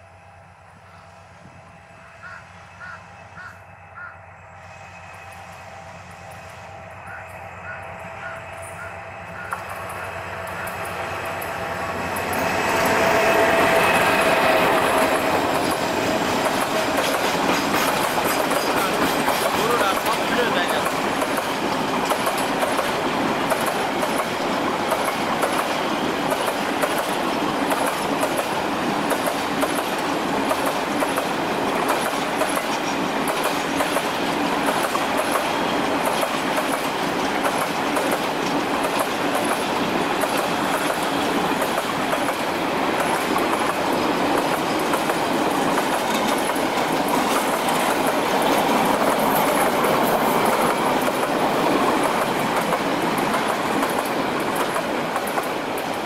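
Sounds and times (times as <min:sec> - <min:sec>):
steel wheels rumbling on rail: 0:00.0 - 0:56.0
clickety-clack over rail joints: 0:08.0 - 0:56.0.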